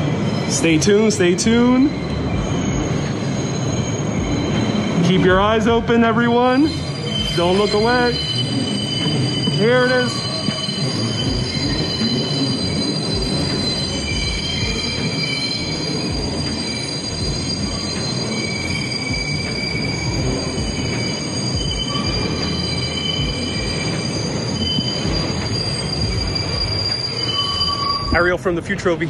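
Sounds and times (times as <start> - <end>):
loud train rumble: 0.0 - 29.0
train wheels screeching: 0.0 - 29.0.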